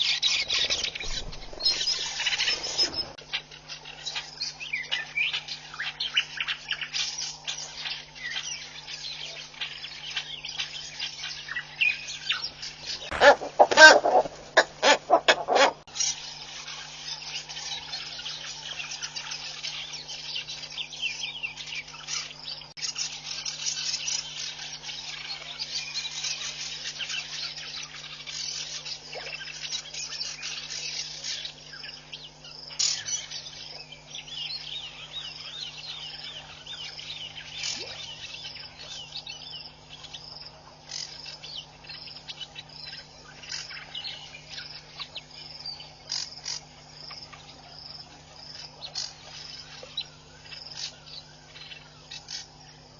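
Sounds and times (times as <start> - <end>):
bird calls: 0.0 - 52.9
insects and crickets calling: 0.0 - 52.9
low steady hum: 0.0 - 52.9.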